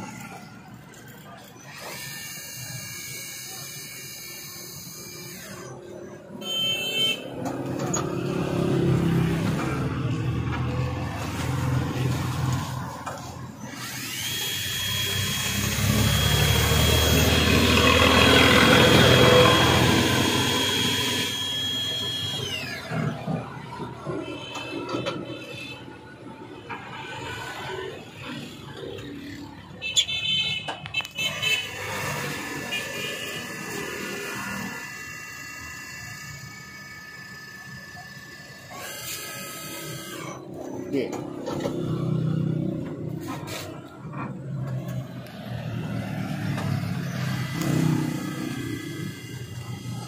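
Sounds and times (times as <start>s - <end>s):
drilling machine whine: 0.0s - 25.5s, 31.0s - 42.6s, 44.9s - 50.0s
motor and drive noise: 0.0s - 25.8s, 30.9s - 50.0s.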